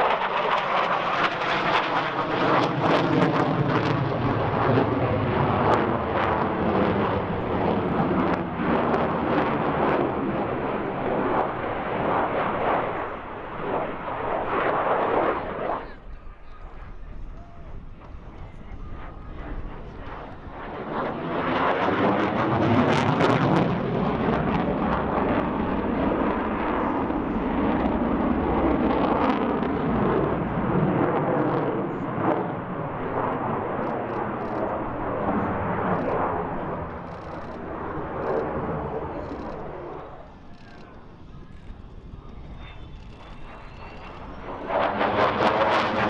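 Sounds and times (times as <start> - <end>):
jet engine flying past: 0.0 - 46.0.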